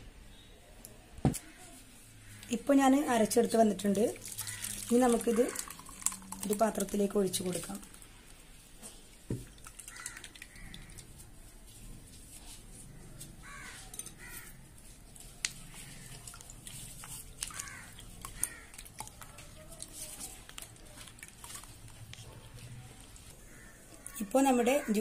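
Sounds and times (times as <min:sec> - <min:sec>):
spoon scraping wet pulp: 0:04.0 - 0:24.3.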